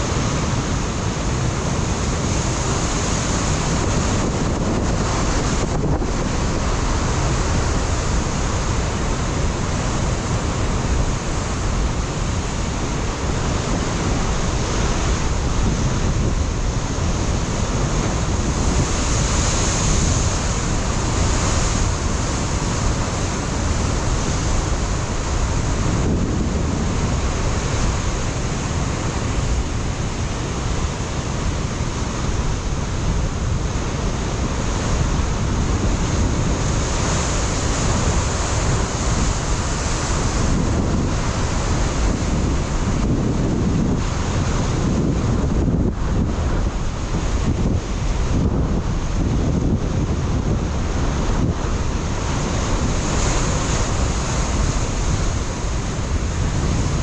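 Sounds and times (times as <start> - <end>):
ocean surf on rocky shore: 0.0 - 57.0
wind buffeting microphone: 0.0 - 57.0.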